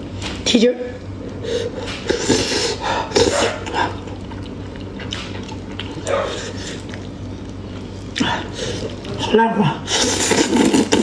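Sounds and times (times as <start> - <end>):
wet chewing and slurping: 1.7 - 11.0.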